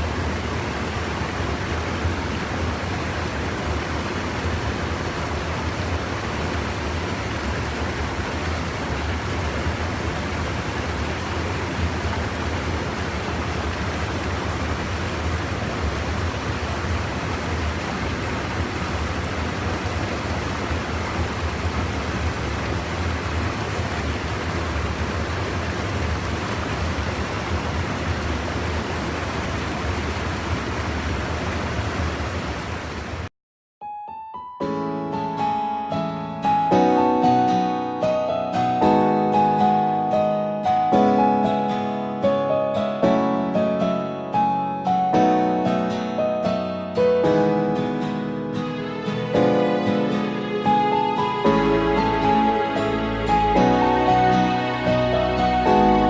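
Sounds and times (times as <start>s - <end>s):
stream water rushing over dam: 0.0s - 33.3s, 36.8s - 56.0s.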